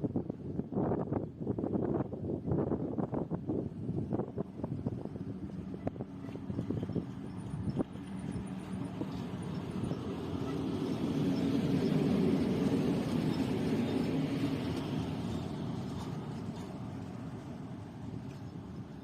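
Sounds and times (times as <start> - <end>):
locomotive wheels rumbling on rail: 0.2 - 19.0.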